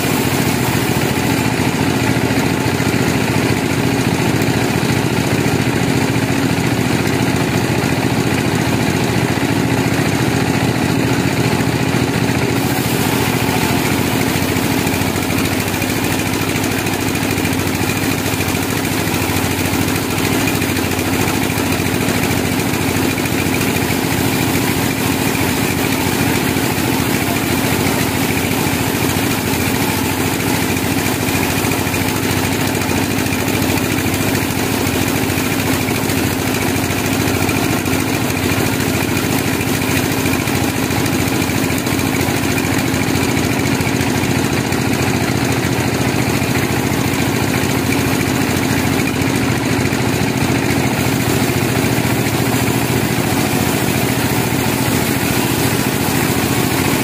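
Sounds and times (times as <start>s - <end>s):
band sawmill sawing log: 0.0s - 57.0s.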